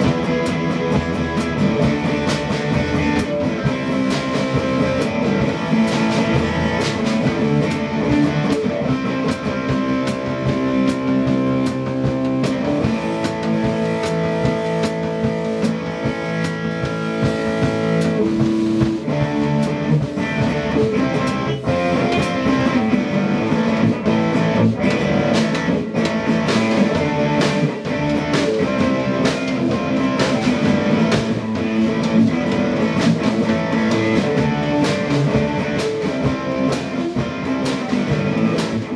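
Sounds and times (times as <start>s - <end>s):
electric guitar playing: 0.0s - 38.9s
steady drum beat: 0.0s - 38.9s.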